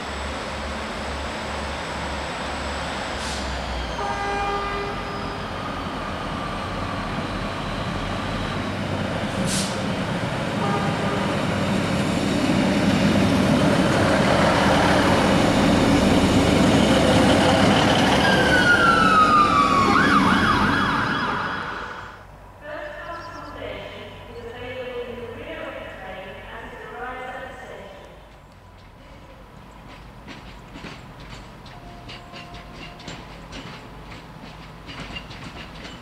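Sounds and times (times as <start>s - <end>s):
diesel train passing: 0.0s - 36.0s.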